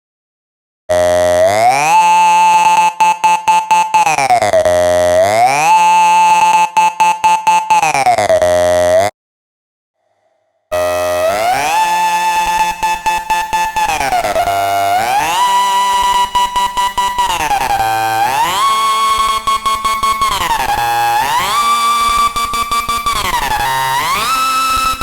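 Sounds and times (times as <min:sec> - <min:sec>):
stuttering synth tone: 0:00.9 - 0:09.1, 0:10.7 - 0:25.0.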